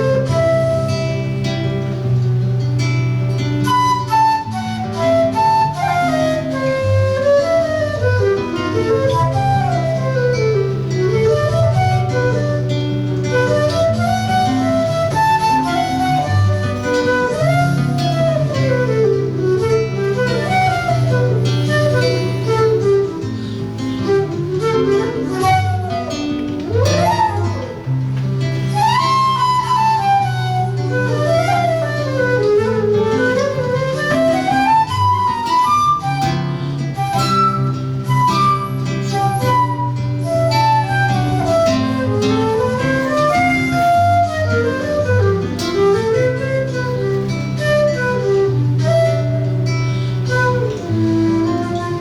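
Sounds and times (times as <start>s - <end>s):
flute playing: 0.0s - 52.0s
guitar playing: 0.0s - 52.0s.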